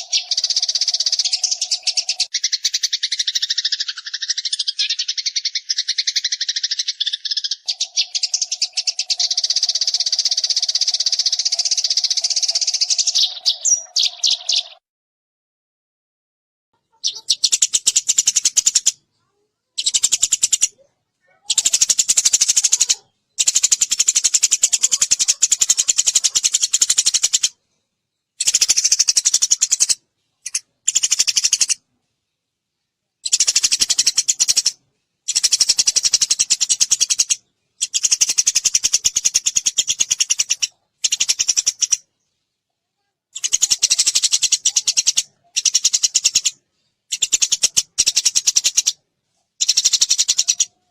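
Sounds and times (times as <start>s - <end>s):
sparrows chirping: 0.0s - 14.8s, 16.8s - 50.9s.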